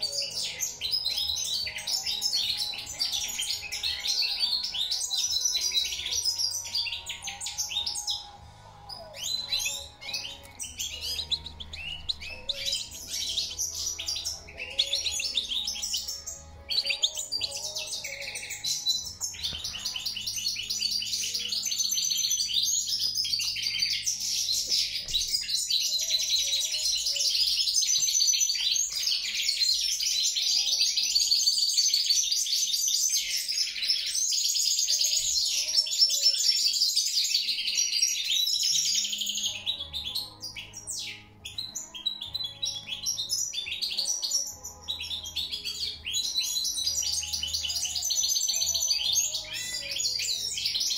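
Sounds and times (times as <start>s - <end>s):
goldfinch twittering song: 0.0s - 50.9s.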